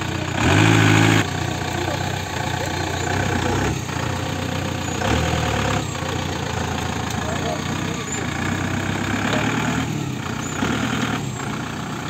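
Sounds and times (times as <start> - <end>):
jeep engine running at low revs: 0.0 - 12.0.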